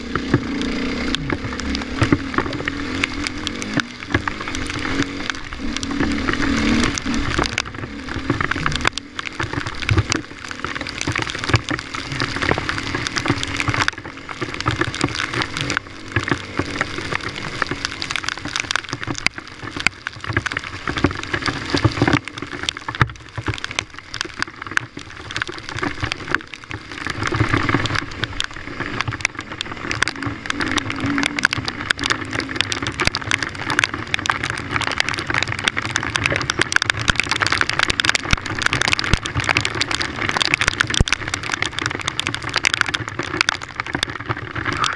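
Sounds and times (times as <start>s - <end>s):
dirt bike engine running: 0.0s - 25.3s, 26.0s - 40.2s
raindrops pelting camera: 0.0s - 44.9s.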